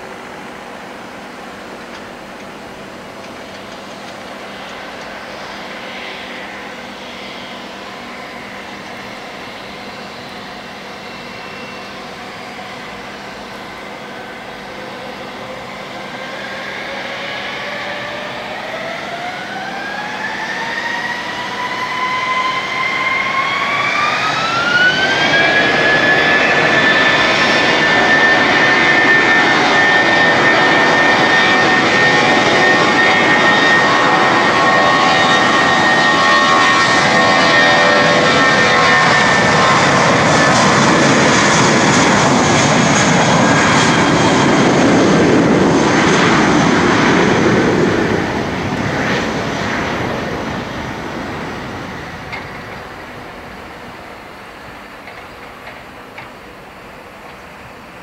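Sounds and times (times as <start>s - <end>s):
jet engines spooling up: 0.0s - 58.0s
loud rushing jet noise: 0.0s - 58.0s.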